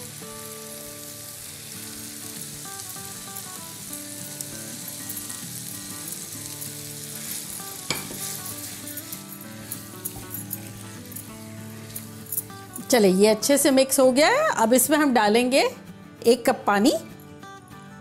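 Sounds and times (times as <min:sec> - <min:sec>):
food sizzling in frying pan: 0:00.0 - 0:14.5
soft background music: 0:00.0 - 0:18.0.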